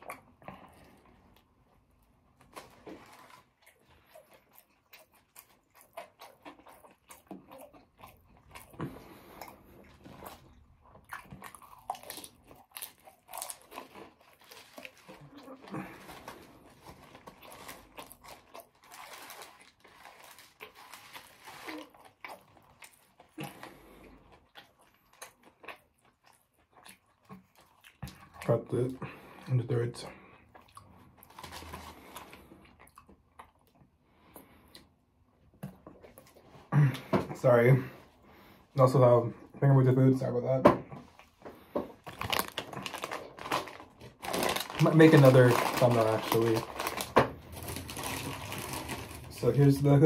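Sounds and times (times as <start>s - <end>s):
chewing crunchy food: 0.0s - 36.7s, 41.0s - 50.0s.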